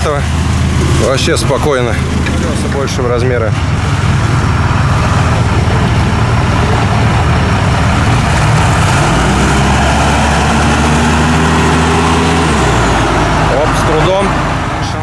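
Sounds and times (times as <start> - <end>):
truck engine driving off-road: 0.0 - 15.0.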